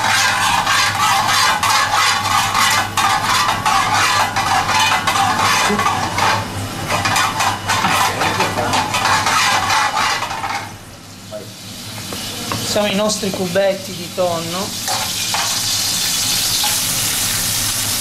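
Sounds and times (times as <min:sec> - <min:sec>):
garlic sizzling in oil: 0:00.0 - 0:18.0.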